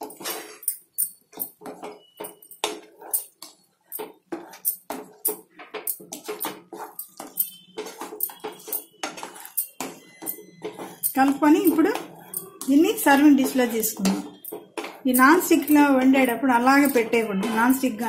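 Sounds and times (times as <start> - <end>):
wooden spatula stirring thick dal: 0.0 - 18.0.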